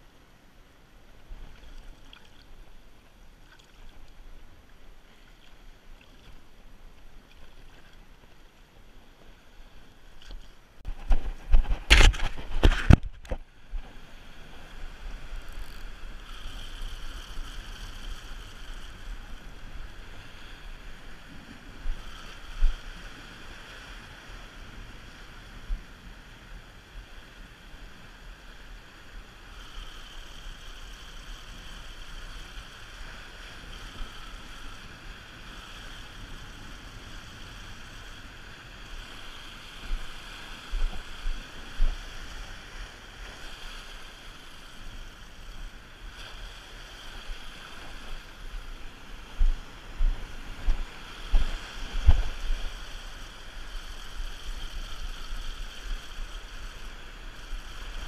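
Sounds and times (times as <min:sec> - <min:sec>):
wind rumbling on microphone: 0:01.1 - 0:58.0
surf washing over rocks: 0:10.8 - 0:58.0.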